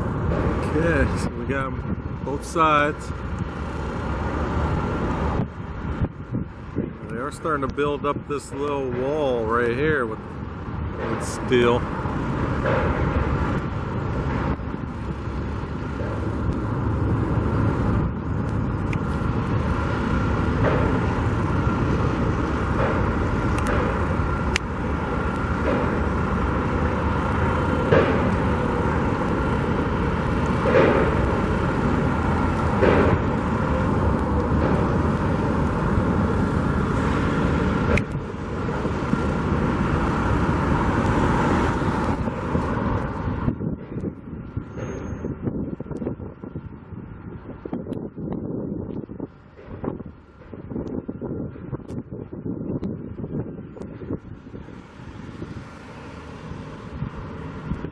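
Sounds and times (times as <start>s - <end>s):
rumble of engines and road traffic: 0.0s - 57.9s.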